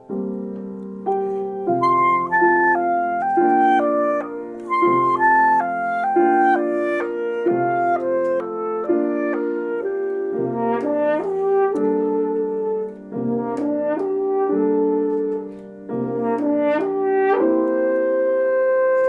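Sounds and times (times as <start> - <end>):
piano accompaniment: 0.0 - 19.0
horn playing melody: 1.7 - 19.0.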